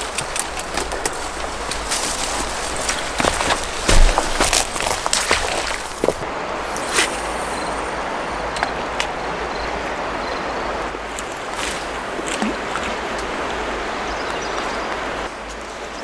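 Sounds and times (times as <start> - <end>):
river water rushing: 0.0 - 15.3.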